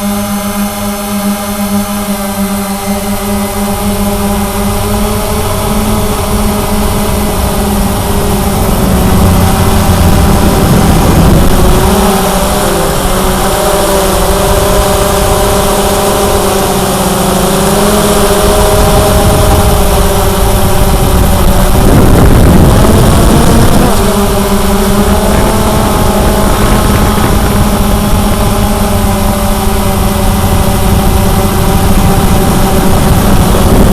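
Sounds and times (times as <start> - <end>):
quadcopter motors buzzing: 0.0 - 33.9.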